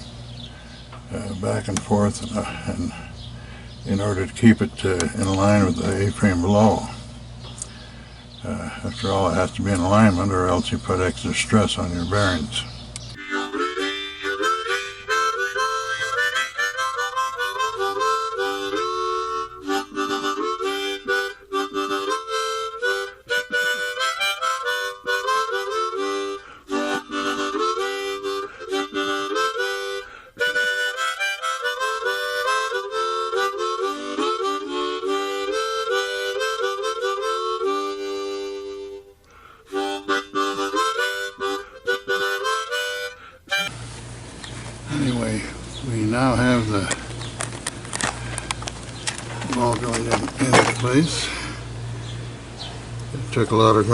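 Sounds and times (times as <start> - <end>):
harmonica melody: 0.0 - 53.9.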